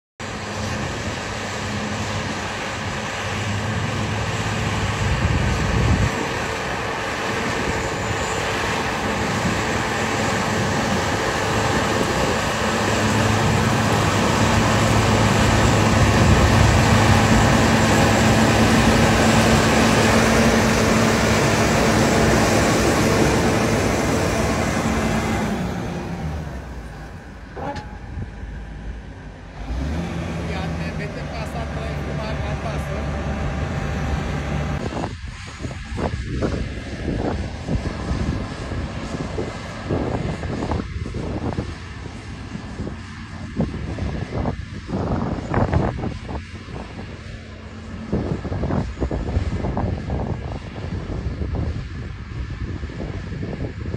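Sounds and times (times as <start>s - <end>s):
heavy vehicle mechanical drone: 0.2s - 53.9s.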